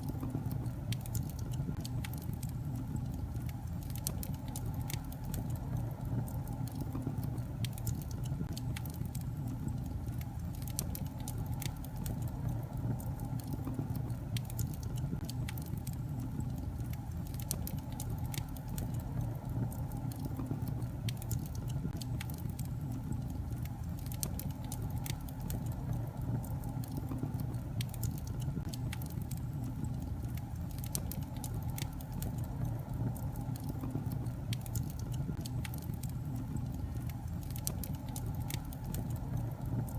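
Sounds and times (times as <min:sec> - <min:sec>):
crackles and pops of burning logs: 0:00.0 - 0:39.9
low rumble of flames: 0:00.0 - 0:39.9.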